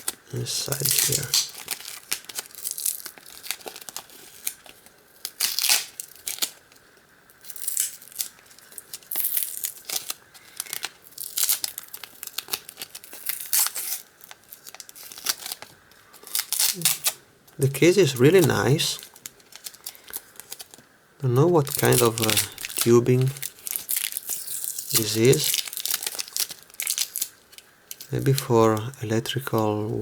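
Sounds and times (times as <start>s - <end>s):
packaging torn and crumpled: 0.0s - 29.6s.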